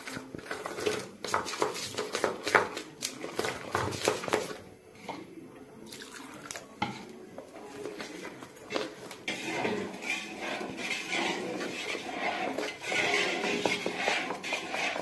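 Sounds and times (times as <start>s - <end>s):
hand mixing batter in steel bowl: 0.0s - 5.2s, 6.2s - 15.0s.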